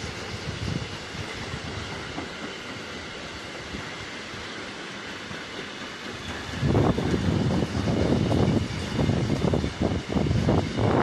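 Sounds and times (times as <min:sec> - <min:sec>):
freight train rolling past: 0:00.0 - 0:11.0.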